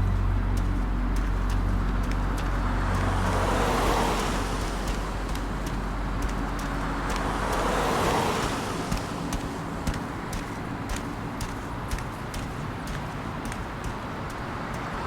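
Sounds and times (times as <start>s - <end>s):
steady low hum: 0.0s - 15.0s
vehicles passing by: 0.0s - 15.0s.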